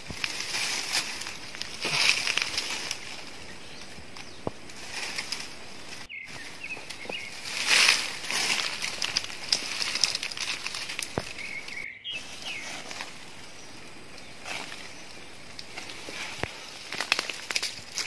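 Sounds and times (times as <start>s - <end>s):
branch cracks: 0.0s - 11.9s, 12.6s - 18.0s
leaves and twigs rustling: 0.0s - 18.0s.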